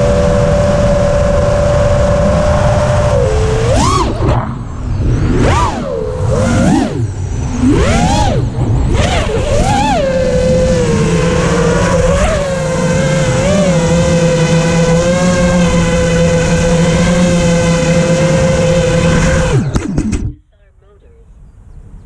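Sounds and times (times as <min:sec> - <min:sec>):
drone motors whining: 0:00.0 - 0:20.5.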